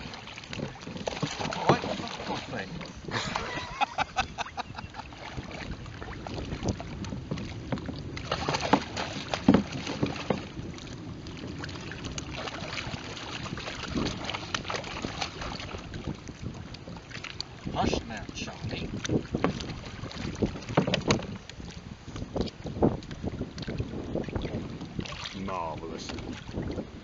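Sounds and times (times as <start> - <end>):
knocks and clatter on boat: 0.0 - 27.0
water sloshing against kayak: 0.0 - 27.0
wind buffeting microphone: 0.0 - 27.0.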